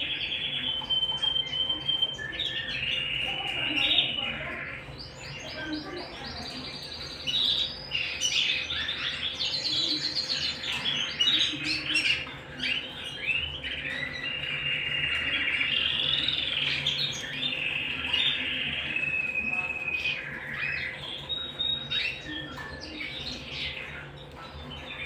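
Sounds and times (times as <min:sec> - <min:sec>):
canaries singing with trills: 0:00.0 - 0:25.0.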